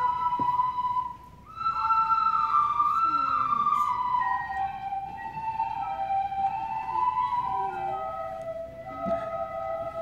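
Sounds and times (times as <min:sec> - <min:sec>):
children playing recorders: 0:00.0 - 0:10.0.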